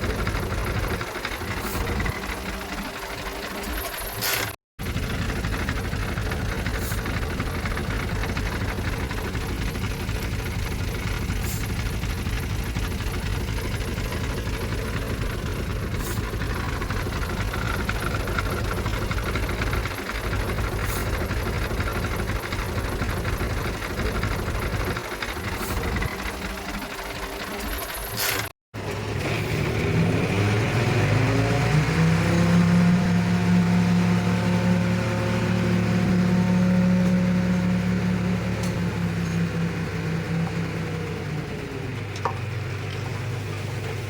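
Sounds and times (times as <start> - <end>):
heavy diesel engine rumbling: 0.0 - 44.0.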